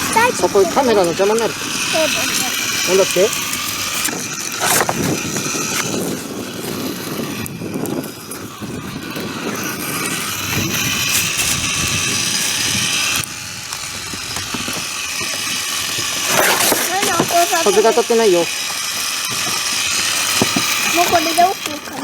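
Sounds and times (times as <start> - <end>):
campfire burning and crackling: 0.0 - 22.0.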